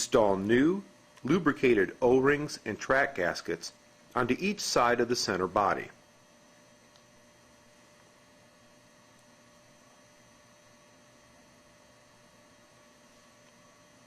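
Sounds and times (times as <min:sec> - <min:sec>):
faint electrical hum and hiss: 0:00.0 - 0:14.0.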